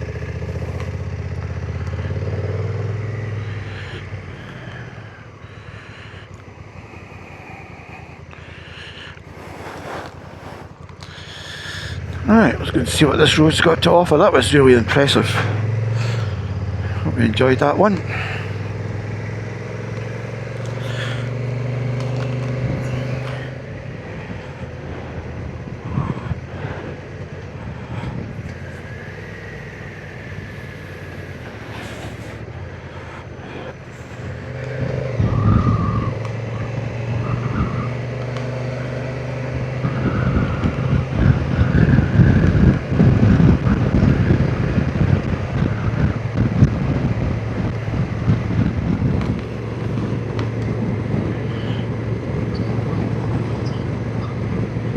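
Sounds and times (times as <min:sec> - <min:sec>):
motorcycle engine running: 0:00.0 - 0:54.9
wind rumbling on microphone: 0:00.0 - 0:54.9.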